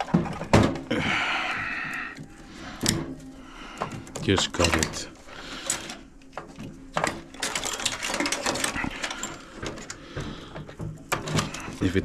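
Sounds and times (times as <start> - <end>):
hand tools clicking on wires: 0.0 - 12.0
metal rattling and scraping: 0.0 - 12.0.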